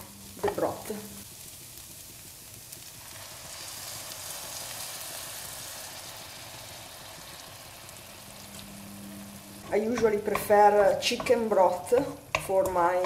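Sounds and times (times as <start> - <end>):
broth sizzling in a pan: 0.0 - 13.0.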